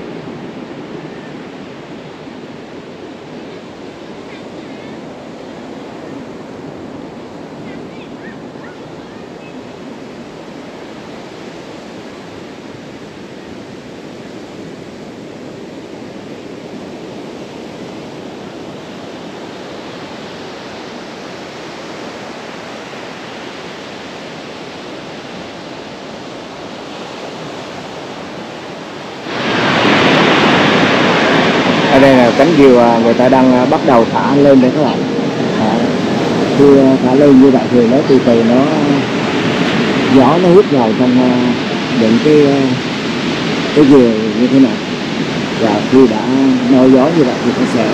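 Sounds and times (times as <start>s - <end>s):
ocean surf on beach: 0.0s - 47.9s
wind: 0.0s - 47.9s.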